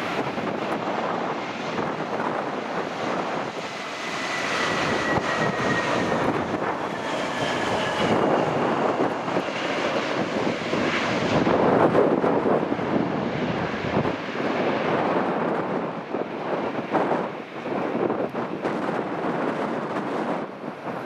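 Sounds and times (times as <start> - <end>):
airliner engines roaring: 0.0 - 21.0.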